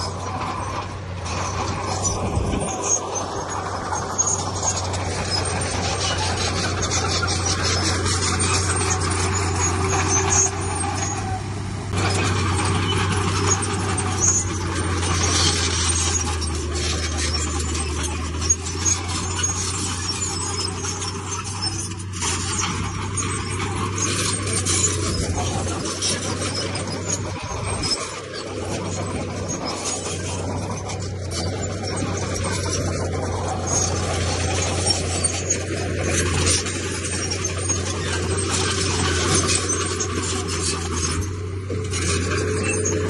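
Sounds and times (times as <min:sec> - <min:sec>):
diesel engine hum: 0:00.0 - 0:43.0
machinery rattling and clanking: 0:00.0 - 0:43.0.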